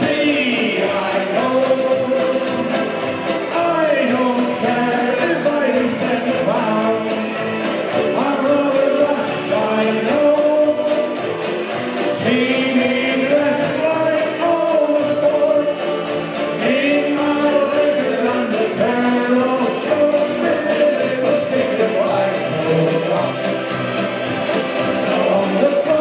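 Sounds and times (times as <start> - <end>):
group singing: 0.0 - 23.3, 24.3 - 26.0
banjo-ukuleles strumming: 0.0 - 26.0.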